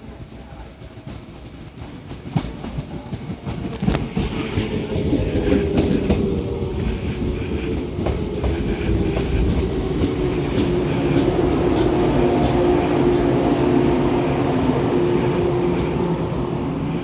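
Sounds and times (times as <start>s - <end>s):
electric train running by: 0.0s - 17.0s.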